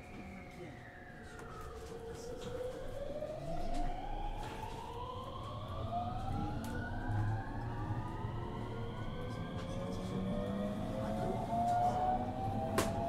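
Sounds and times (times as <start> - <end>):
low rumble of running train: 0.0 - 13.0.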